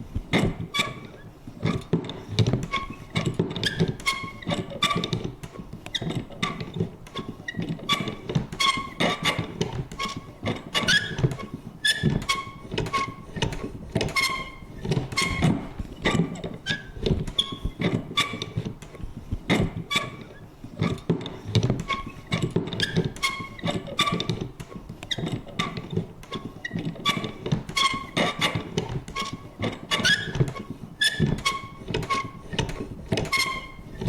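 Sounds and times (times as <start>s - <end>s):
squeaky creak: 0.4s - 1.9s, 2.5s - 18.7s, 19.5s - 24.5s, 25.1s - 34.0s.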